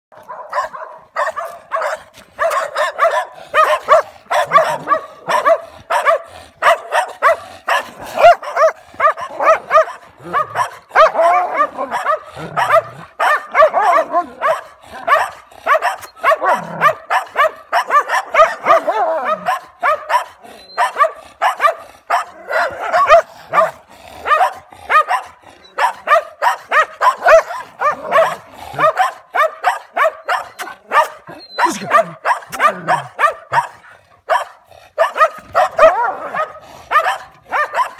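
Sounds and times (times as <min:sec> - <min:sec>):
dogs barking rapidly: 0:00.1 - 0:37.9.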